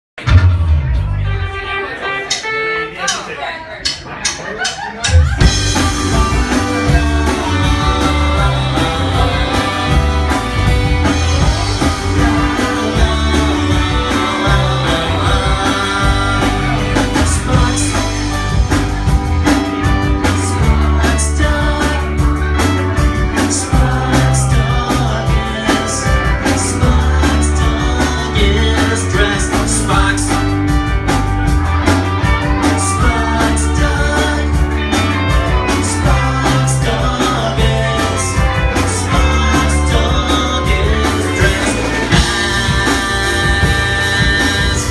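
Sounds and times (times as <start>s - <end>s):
live rock band playing: 0.2s - 44.9s
person singing: 5.1s - 30.8s, 32.1s - 44.9s.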